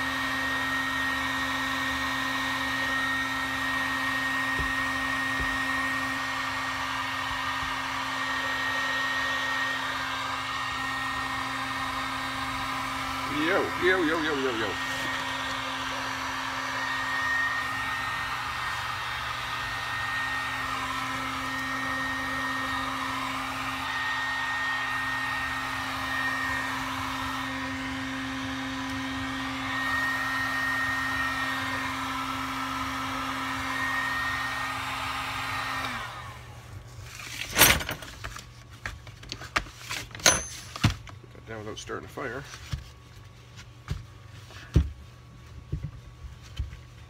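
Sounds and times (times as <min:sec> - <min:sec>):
heat gun blowing: 0:00.0 - 0:38.0.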